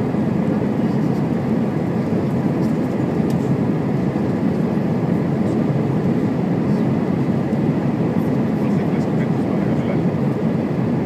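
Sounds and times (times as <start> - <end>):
aircraft cabin engine rumble: 0.0 - 11.0.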